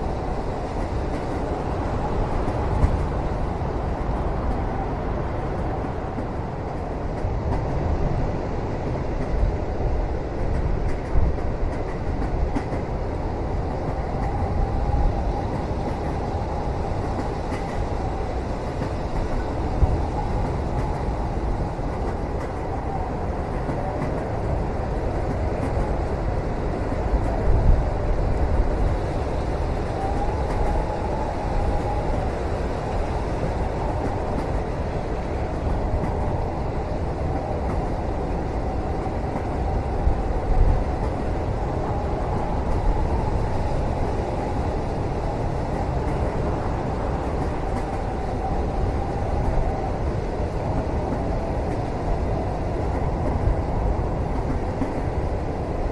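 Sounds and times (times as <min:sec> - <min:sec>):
train cabin rumble: 0:00.0 - 0:55.9.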